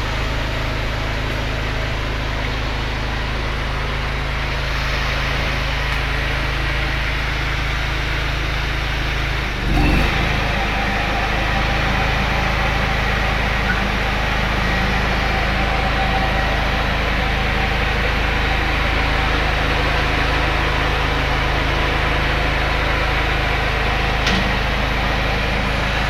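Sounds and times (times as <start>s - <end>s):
generator engine drone: 0.0s - 26.0s.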